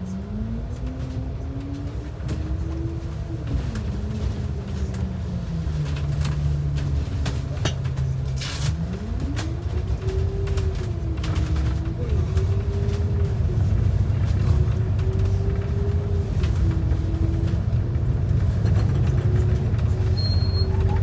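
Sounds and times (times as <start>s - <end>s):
bus engine rumble and whine: 0.0s - 21.0s.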